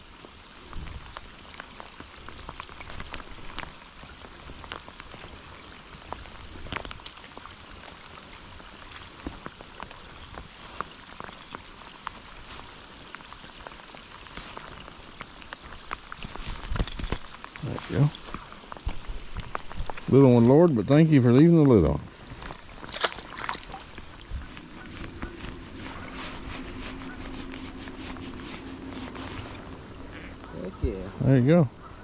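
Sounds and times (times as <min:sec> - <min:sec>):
rain hissing: 0:00.0 - 0:30.4
raindrops ticking on surfaces: 0:00.0 - 0:31.7.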